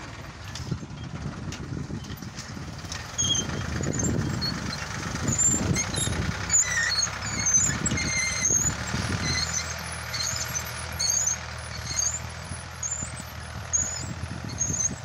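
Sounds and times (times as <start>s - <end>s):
distant tractor engine drone: 0.0s - 15.0s.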